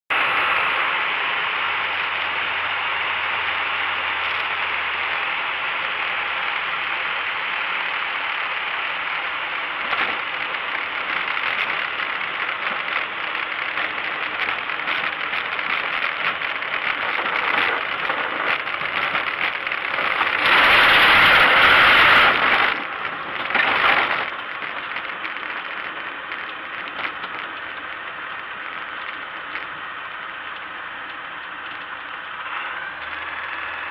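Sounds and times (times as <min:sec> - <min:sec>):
light aircraft engine and propeller: 0:00.1 - 0:23.0, 0:26.5 - 0:33.9.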